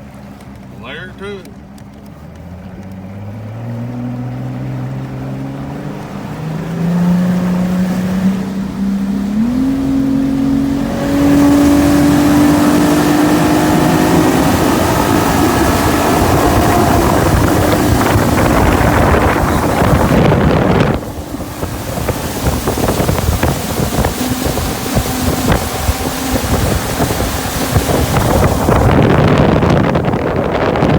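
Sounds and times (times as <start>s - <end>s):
outboard motor revving: 0.0s - 30.9s
wind and water rushing: 3.2s - 30.9s.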